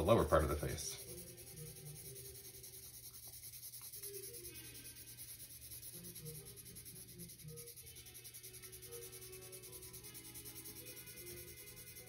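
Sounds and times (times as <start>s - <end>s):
colored pencil shading on paper: 0.0s - 12.0s.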